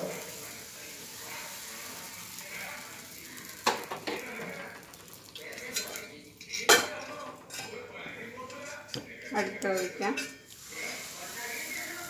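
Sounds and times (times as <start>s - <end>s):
faint batter sizzling: 0.0s - 12.0s.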